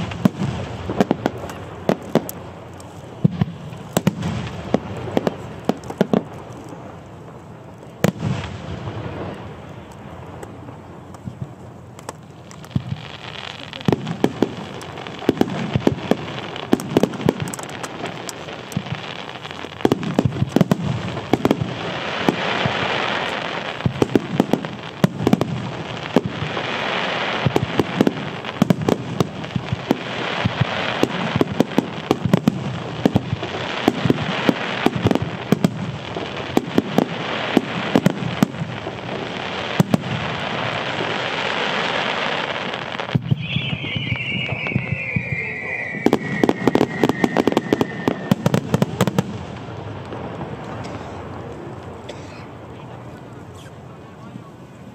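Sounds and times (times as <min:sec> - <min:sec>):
fireworks bangs: 0:00.0 - 0:53.8
fireworks crackling: 0:00.0 - 0:54.9.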